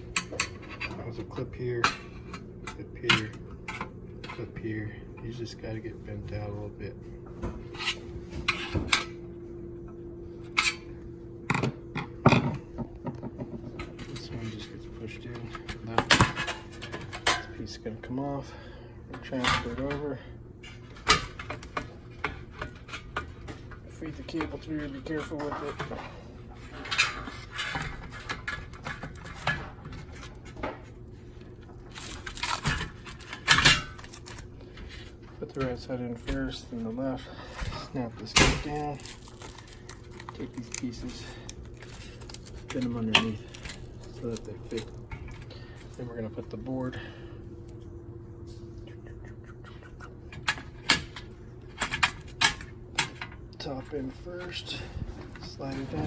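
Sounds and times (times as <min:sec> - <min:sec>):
faint hum: 0:00.0 - 0:56.0.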